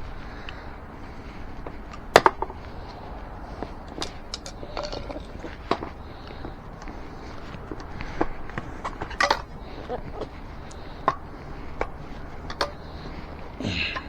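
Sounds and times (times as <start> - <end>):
tire squeak: 0.0 - 14.0.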